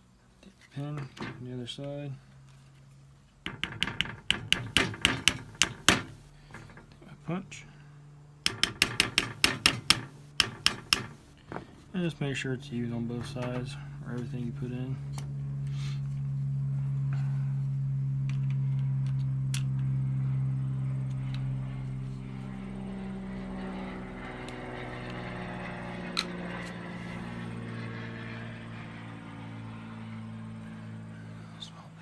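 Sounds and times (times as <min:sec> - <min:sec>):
low droning hum: 0:00.0 - 0:32.0.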